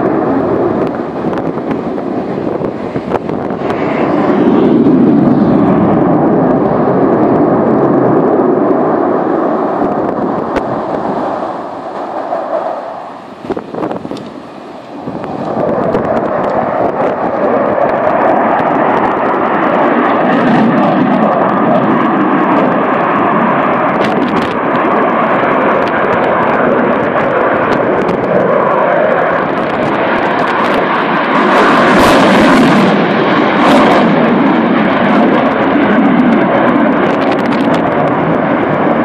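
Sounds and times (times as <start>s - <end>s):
aircraft flying over: 0.0s - 39.0s.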